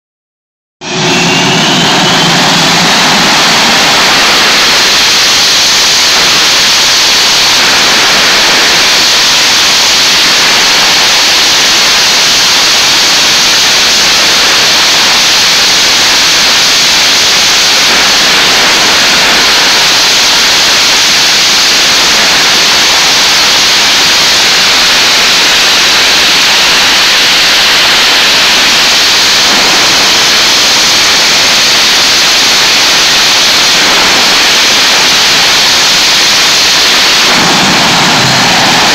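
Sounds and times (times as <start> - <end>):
jet engines roaring: 0.8 - 38.9.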